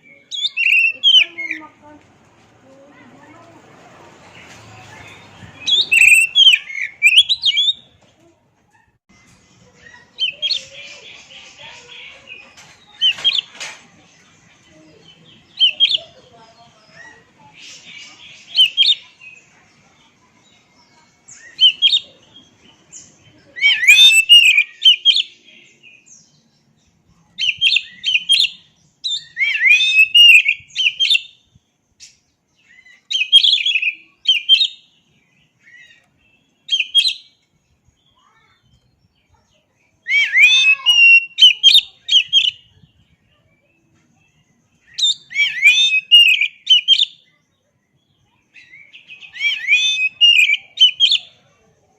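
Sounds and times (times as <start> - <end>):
bird singing: 0.0 - 2.0, 4.3 - 8.0, 9.1 - 51.9.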